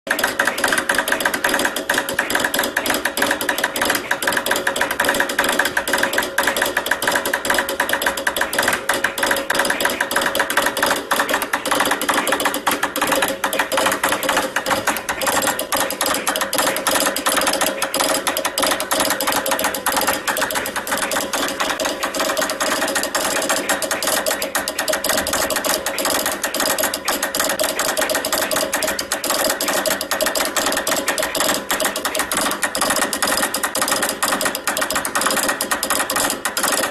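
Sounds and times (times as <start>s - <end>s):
morse key clicking rapidly: 0.1s - 36.9s.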